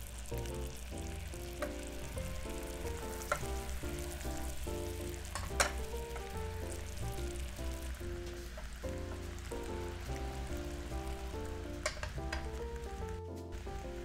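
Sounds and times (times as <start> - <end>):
background music simple melody: 0.0 - 14.0
crackling sizzling hiss: 0.0 - 14.0.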